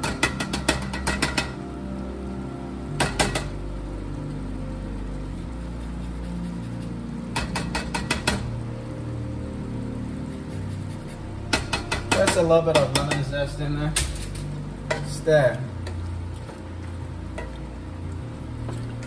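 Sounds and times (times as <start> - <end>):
low background music: 0.0 - 19.0.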